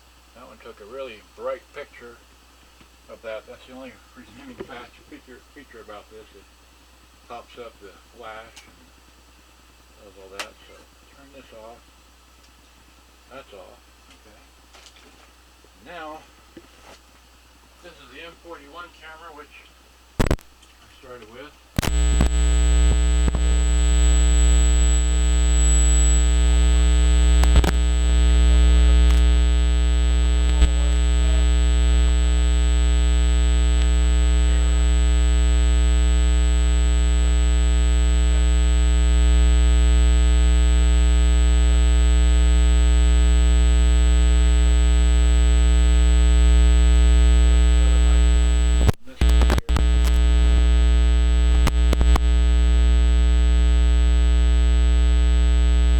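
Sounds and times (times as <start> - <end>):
electrical mains hum and buzz: 0.0 - 55.9.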